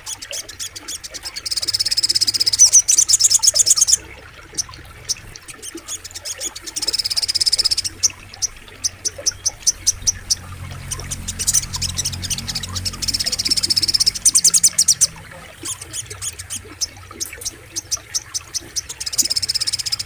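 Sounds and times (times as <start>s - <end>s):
bird high-pitched trills: 0.0s - 20.0s.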